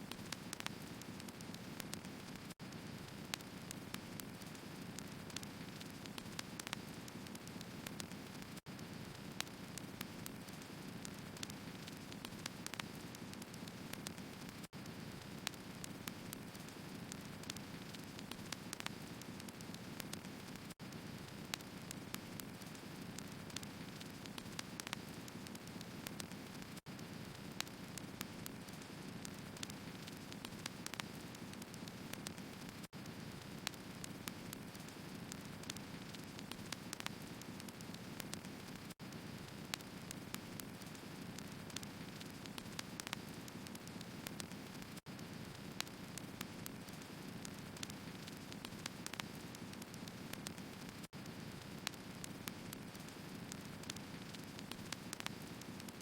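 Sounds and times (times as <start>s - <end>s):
logs crackling and popping: 0.0s - 56.0s.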